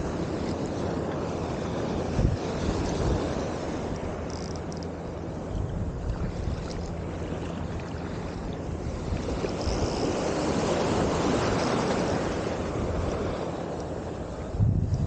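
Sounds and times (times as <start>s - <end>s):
wind buffeting microphone: 1.6s - 4.2s, 5.4s - 15.0s.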